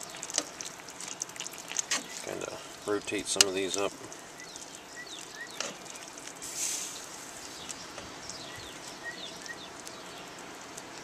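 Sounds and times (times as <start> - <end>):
sausages simmering and bubbling: 0.0 - 11.0
birds chirping: 1.9 - 11.0.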